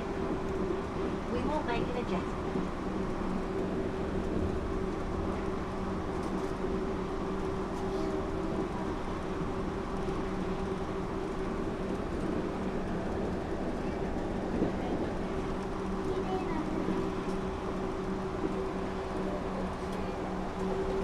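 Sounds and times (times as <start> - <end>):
train rumble from inside: 0.0 - 21.0.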